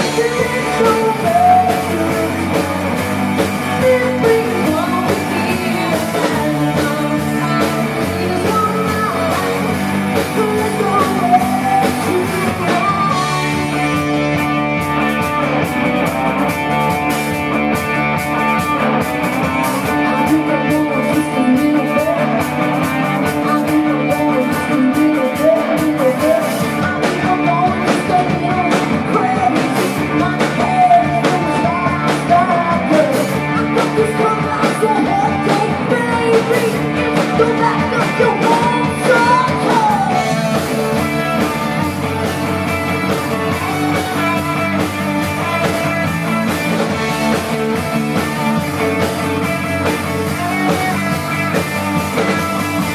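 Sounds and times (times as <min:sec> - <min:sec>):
bending lead guitar melody: 0:00.0 - 0:52.9
live rock band playing: 0:00.0 - 0:52.9.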